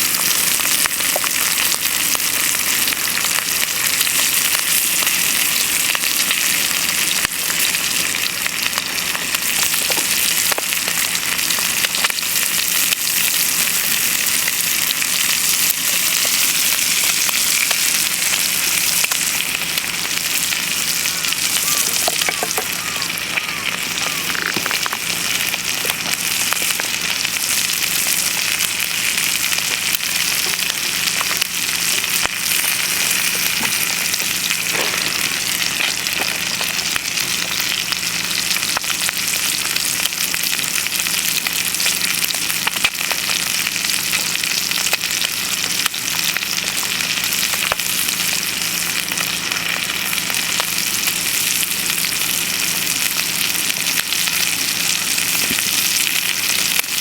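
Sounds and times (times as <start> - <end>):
bacon and eggs sizzling in pan: 0.0 - 57.0.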